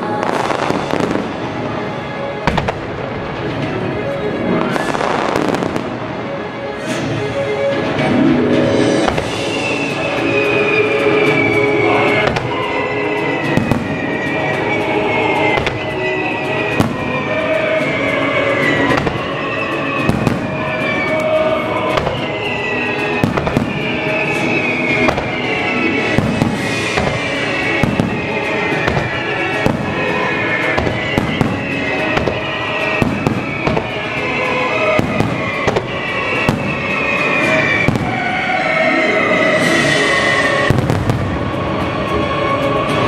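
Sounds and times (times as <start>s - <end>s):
fireworks bursting: 0.0s - 43.0s
music playing: 0.0s - 43.0s.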